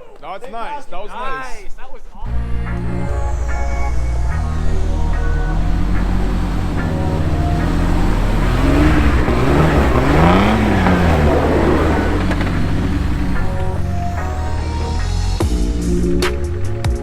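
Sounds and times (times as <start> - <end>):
background music: 2.2 - 17.0
engine revving: 2.3 - 16.7.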